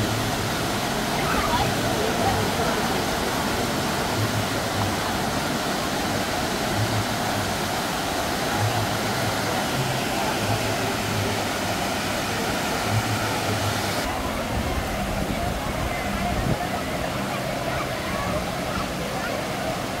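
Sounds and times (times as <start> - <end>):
murmur of crowd voices: 0.0 - 20.0
rush of falling water: 0.0 - 20.0.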